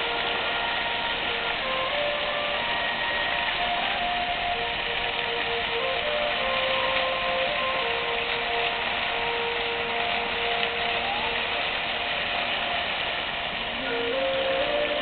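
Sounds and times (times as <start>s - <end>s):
faint music of held notes: 0.0s - 15.0s
fountain jets hissing and splashing: 0.0s - 15.0s.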